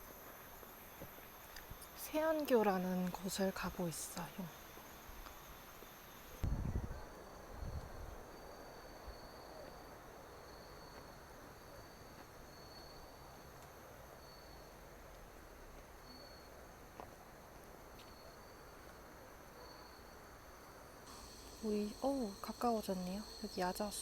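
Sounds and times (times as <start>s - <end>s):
crickets chirping: 0.0s - 24.0s
low outdoor hiss: 0.0s - 24.0s.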